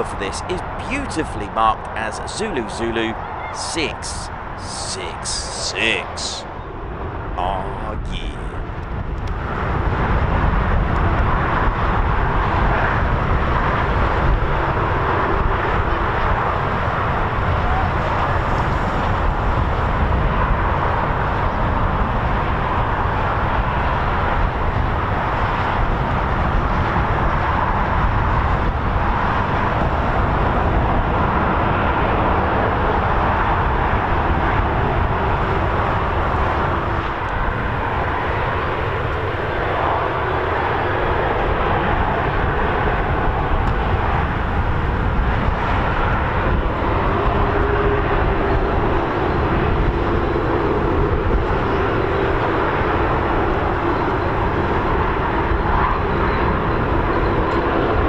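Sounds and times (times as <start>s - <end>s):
jet engines taxiing: 0.0s - 58.0s.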